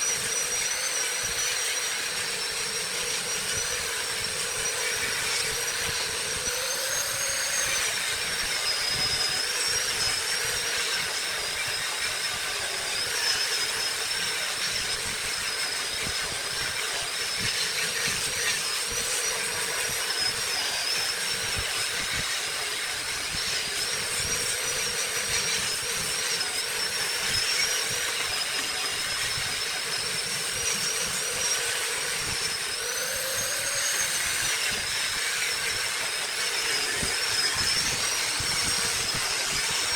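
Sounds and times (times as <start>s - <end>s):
wood lathe whining: 0.0s - 39.9s.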